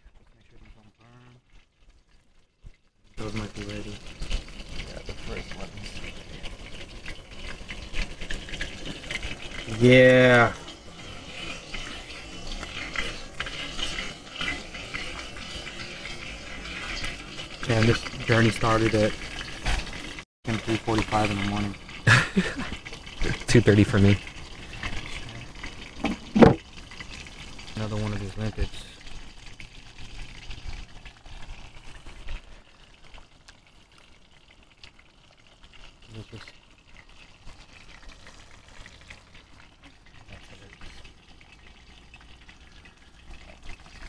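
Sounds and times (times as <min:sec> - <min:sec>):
fish frying in hot oil: 0:00.0 - 0:44.0
pan sizzling on camp stove: 0:00.6 - 0:44.0.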